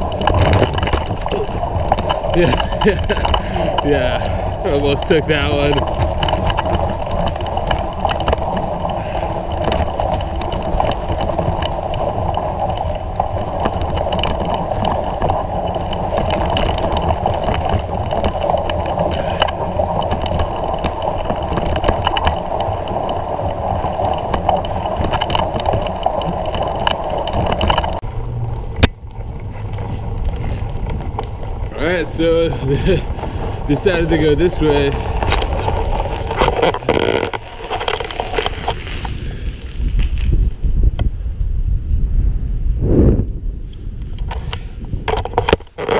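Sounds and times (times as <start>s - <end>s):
bike tyres crunching over snow: 0.0s - 45.9s.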